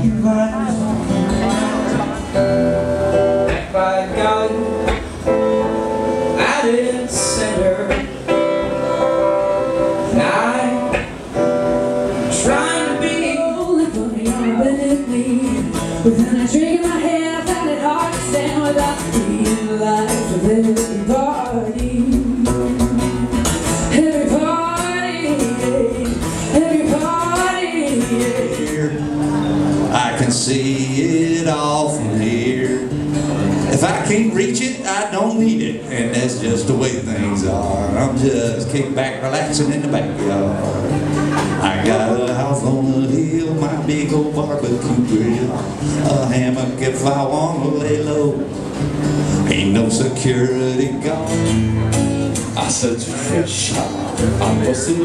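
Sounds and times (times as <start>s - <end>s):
person singing: 0.0s - 38.5s, 39.4s - 51.7s
guitar playing: 0.0s - 55.0s.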